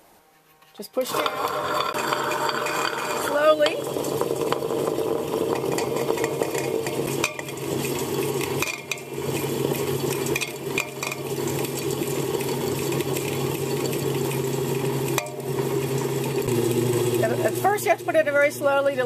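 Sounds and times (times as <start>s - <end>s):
grinding stones rasping: 1.0s - 17.3s
grinder motor hum: 1.1s - 19.0s.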